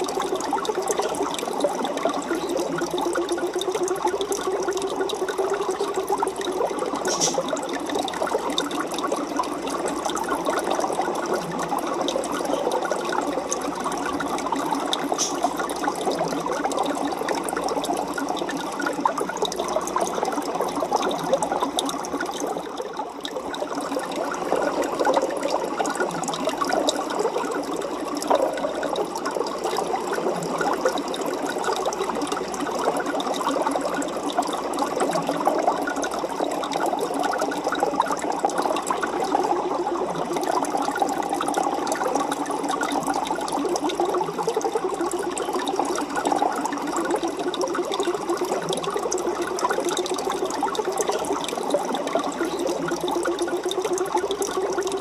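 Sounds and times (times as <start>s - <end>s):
aquarium water bubbling: 0.0s - 55.0s.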